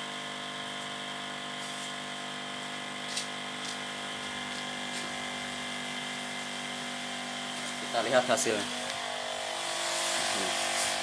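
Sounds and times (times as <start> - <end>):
sprayer pump humming: 0.0 - 11.0.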